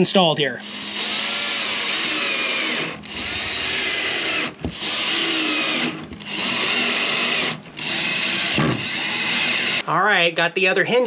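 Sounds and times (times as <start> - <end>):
power drill driving screws: 0.6 - 9.8.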